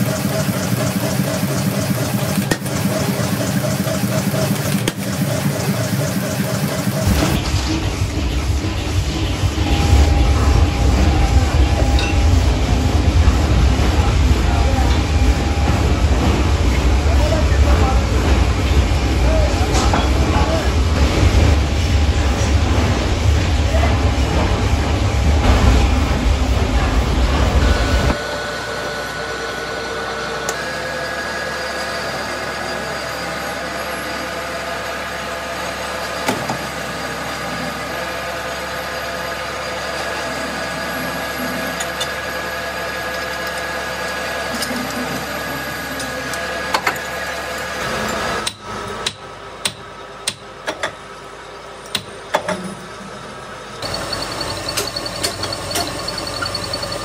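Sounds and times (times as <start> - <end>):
lathe running hum: 0.0 - 57.0
machinery humming: 0.0 - 57.0.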